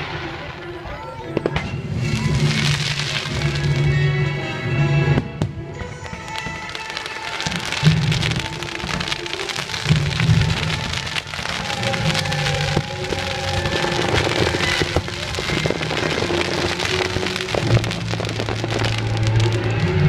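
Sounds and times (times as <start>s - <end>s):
fireworks pops: 0.0s - 4.0s, 5.1s - 20.0s
fireworks crackling: 0.0s - 20.0s
music soundtrack: 0.0s - 20.0s.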